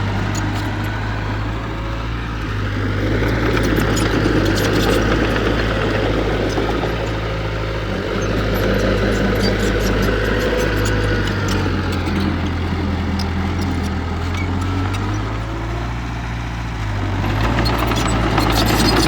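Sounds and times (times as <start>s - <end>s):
heavy machine diesel engine running: 0.0s - 19.0s.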